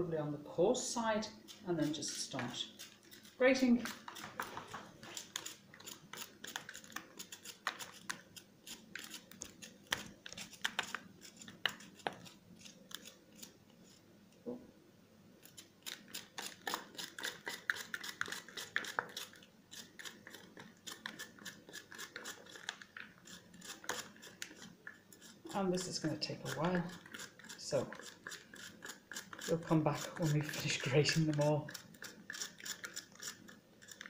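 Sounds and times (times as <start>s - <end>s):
truffle scraping on mandolin blade: 1.4s - 14.0s, 15.4s - 34.0s.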